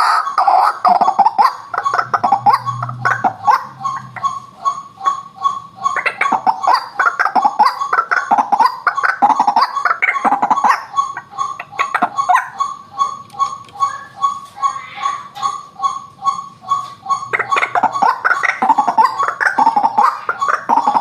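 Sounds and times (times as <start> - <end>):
waterhen calling: 0.0 - 21.0.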